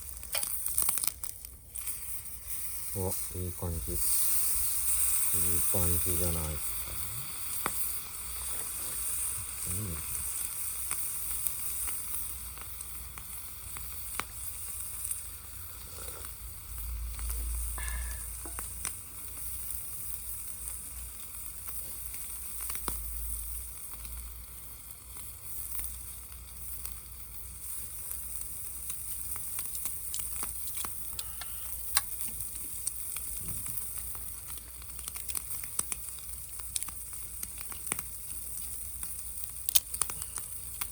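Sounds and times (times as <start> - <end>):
food sizzling in frying pan: 0.0 - 40.9.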